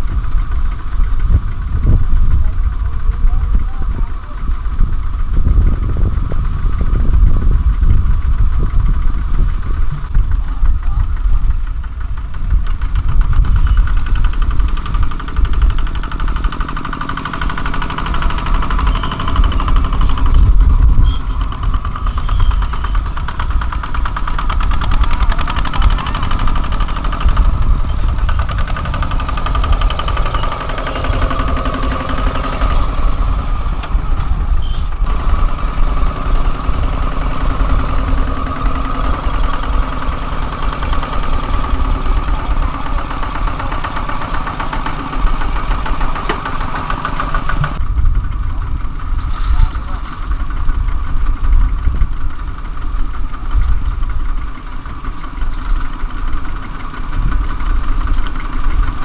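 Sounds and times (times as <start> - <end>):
diesel engine running with knock: 0.0 - 59.0.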